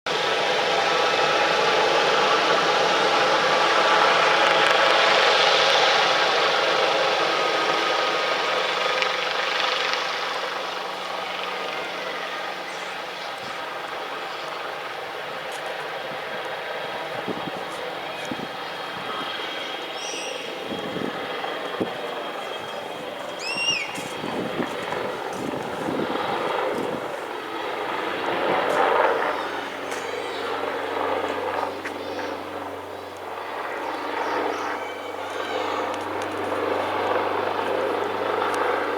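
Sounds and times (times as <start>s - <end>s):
helicopter turbine and rotors droning: 0.1s - 38.9s.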